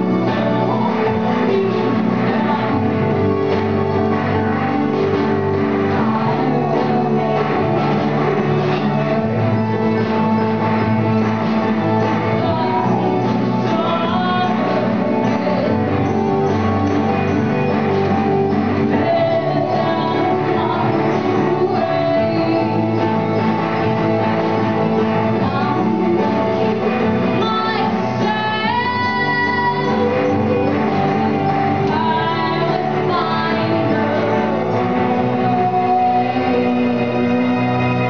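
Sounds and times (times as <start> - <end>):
woman singing: 0.0 - 10.3, 11.6 - 38.0.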